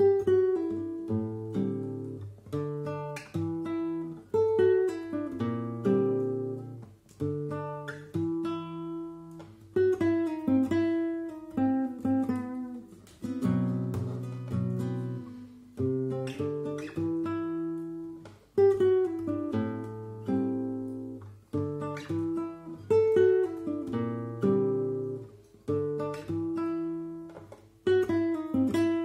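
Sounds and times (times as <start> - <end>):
picked guitar notes: 0.0 - 29.0.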